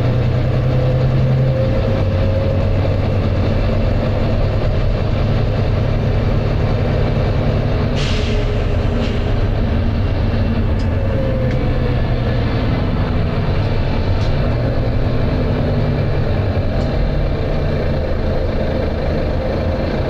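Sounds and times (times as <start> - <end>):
bus diesel engine drone: 0.0 - 20.0.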